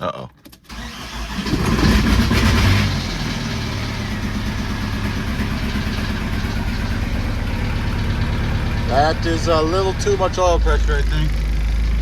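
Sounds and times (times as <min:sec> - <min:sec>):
diesel engine idling with clatter: 0:00.7 - 0:12.0.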